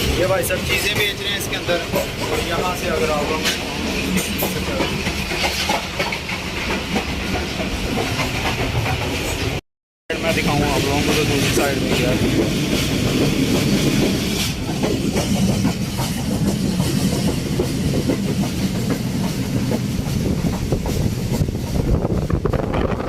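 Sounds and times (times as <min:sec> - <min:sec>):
wheels clacking over rails: 0:00.0 - 0:09.6, 0:10.2 - 0:22.6
train low rumble: 0:00.0 - 0:23.0.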